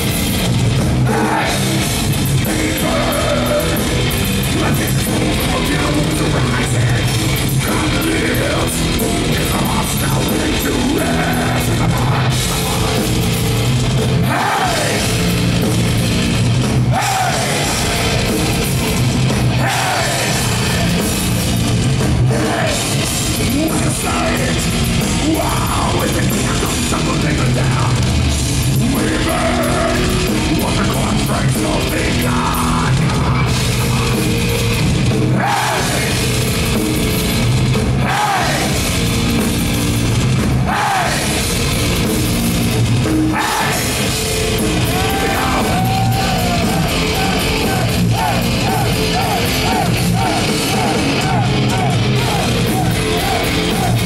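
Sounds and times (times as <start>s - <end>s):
distorted guitars: 0.0s - 54.0s
pounding drum kit: 0.0s - 54.0s.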